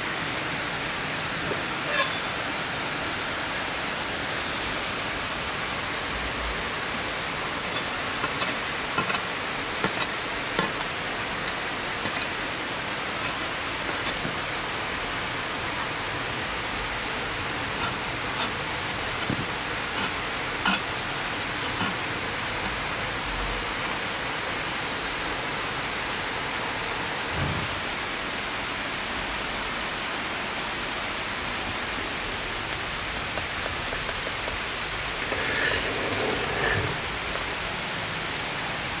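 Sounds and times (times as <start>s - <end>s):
stream rushing: 0.0s - 39.0s.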